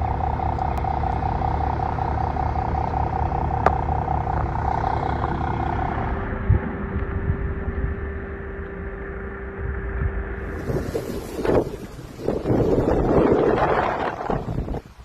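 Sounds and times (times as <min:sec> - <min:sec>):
motor vehicle humming: 0:00.0 - 0:15.0.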